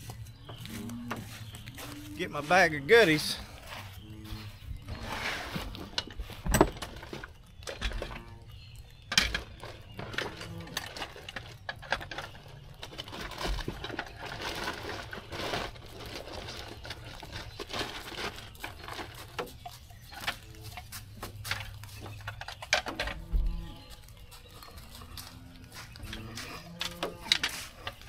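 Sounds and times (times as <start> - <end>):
gear rustling and crinkling: 0.0 - 28.0.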